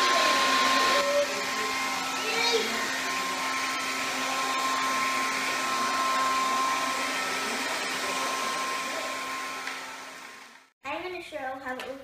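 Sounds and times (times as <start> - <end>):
vacuum cleaner whirring: 0.0 - 10.8.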